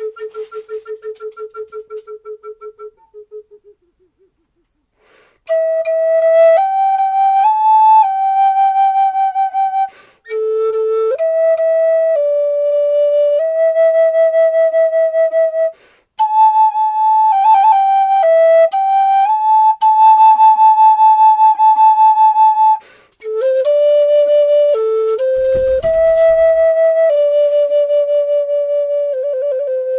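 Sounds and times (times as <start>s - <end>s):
slow flute melody: 0.0s - 4.7s, 5.4s - 29.9s.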